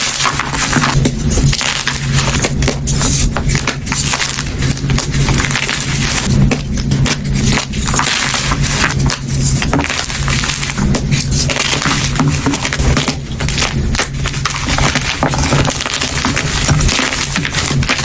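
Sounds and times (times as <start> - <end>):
chalk crunching: 0.0 - 18.0.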